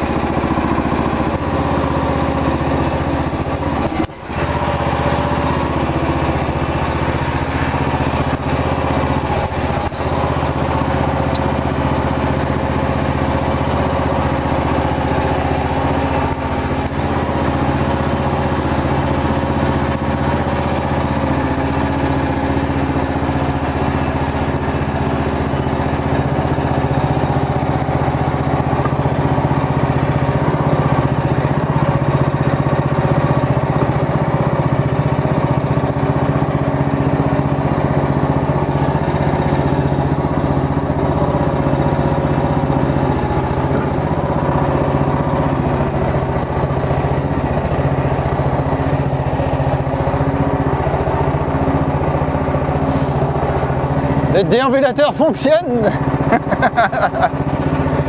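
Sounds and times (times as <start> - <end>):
small excavator engine running: 0.0 - 58.0.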